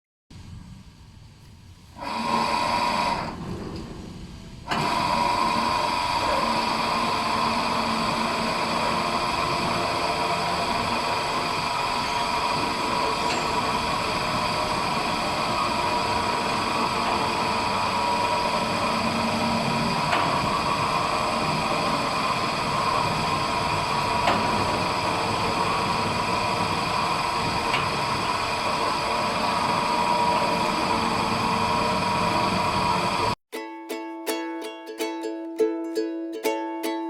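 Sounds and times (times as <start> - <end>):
gate motor humming: 2.0 - 33.4.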